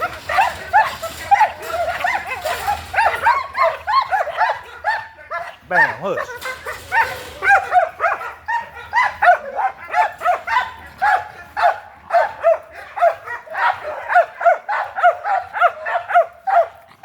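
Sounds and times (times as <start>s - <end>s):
dog barking: 0.0s - 17.0s.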